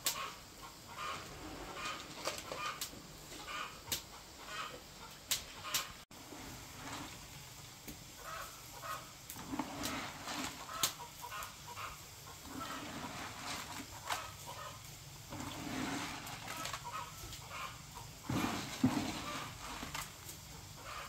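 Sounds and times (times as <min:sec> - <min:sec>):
chickens clucking: 0:00.1 - 0:07.1, 0:08.2 - 0:21.0.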